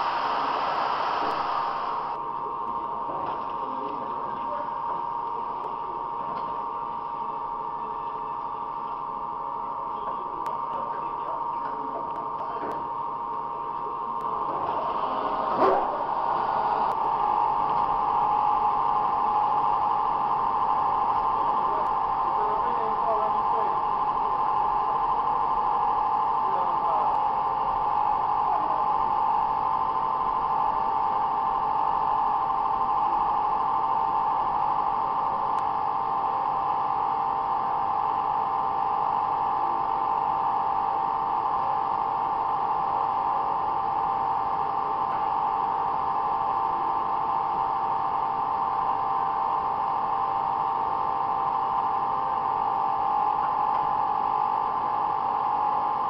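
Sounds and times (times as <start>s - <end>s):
machine drone with high hum: 0.0s - 56.0s.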